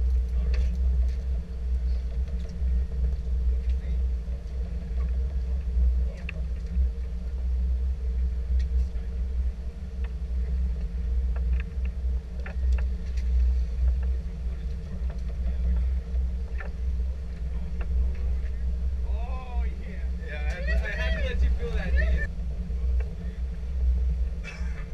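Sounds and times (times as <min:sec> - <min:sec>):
boat engine rumbling: 0:00.0 - 0:24.9
wind buffeting microphone: 0:00.0 - 0:24.9.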